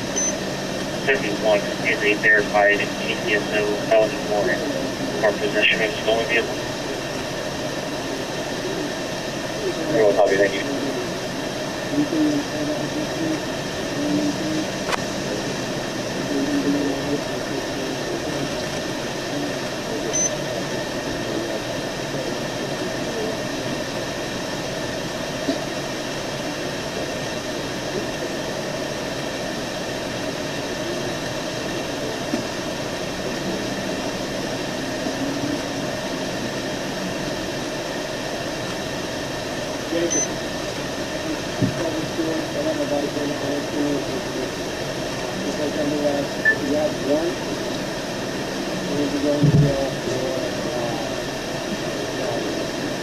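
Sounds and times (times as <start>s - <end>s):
air conditioner hiss and hum: 0.0s - 53.0s.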